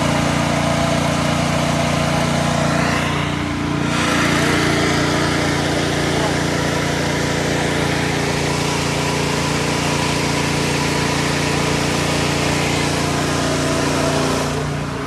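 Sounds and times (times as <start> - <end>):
ventilation fan engine drone: 0.0 - 15.0.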